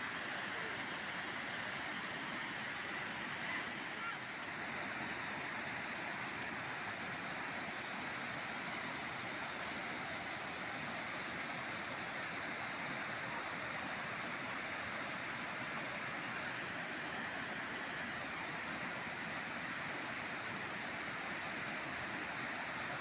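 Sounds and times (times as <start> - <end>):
waterfall rushing over rocks: 0.0 - 23.0.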